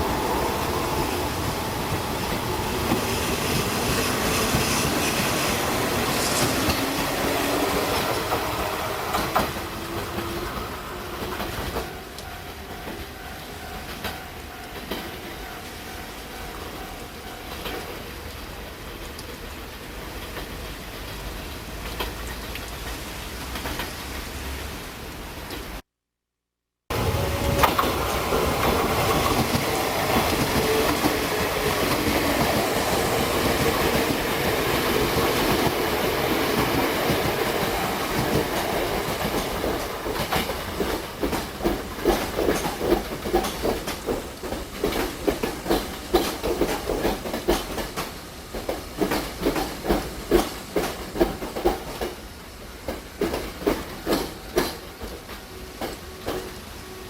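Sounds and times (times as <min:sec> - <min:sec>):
wheels clacking over rail joints: 0:00.0 - 0:16.5, 0:26.9 - 0:56.6
electric train running past: 0:00.0 - 0:25.7, 0:26.9 - 0:57.0.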